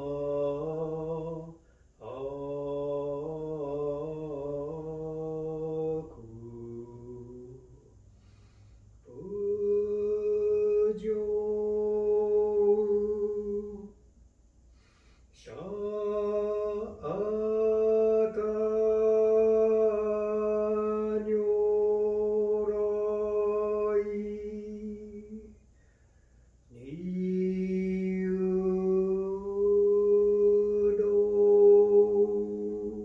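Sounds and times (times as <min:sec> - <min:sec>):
man chanting: 0:00.0 - 0:08.1, 0:09.0 - 0:14.0, 0:15.3 - 0:25.6, 0:26.7 - 0:33.0.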